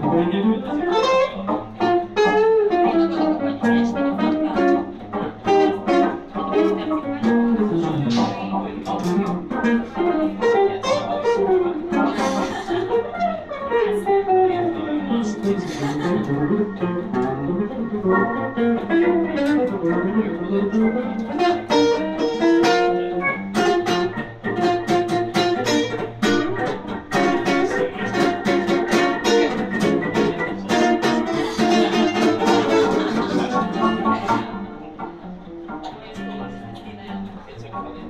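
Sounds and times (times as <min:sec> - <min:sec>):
acoustic band playing: 0:00.0 - 0:38.0
guitar picking quick runs: 0:00.0 - 0:38.0.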